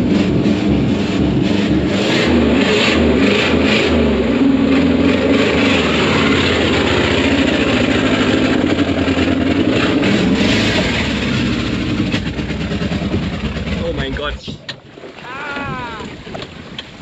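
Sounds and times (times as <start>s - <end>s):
rough engine at high revs: 0.0s - 14.5s.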